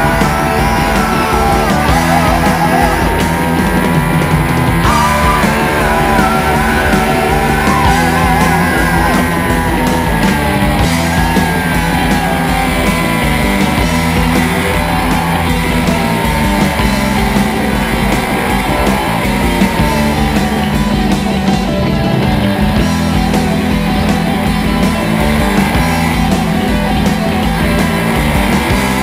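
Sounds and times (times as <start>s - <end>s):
rock music with electric guitar: 0.0s - 29.0s.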